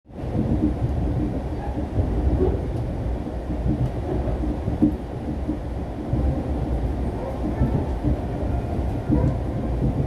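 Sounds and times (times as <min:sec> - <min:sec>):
train rumbling on rails: 0:00.1 - 0:10.0.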